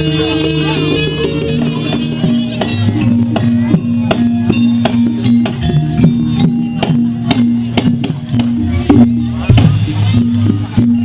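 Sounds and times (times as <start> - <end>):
gamelan metal percussion: 0.0 - 11.0.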